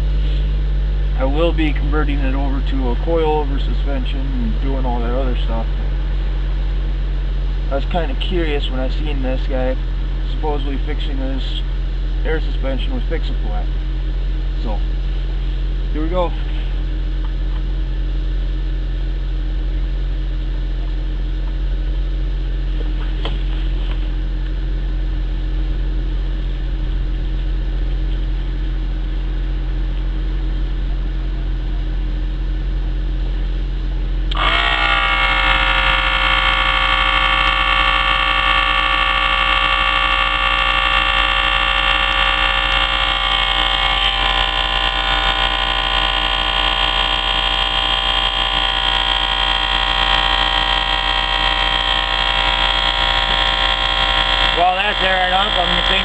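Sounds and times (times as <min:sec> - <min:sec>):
air compressor buzzing drone: 0:00.0 - 0:56.0
steady low hum: 0:00.0 - 0:56.0.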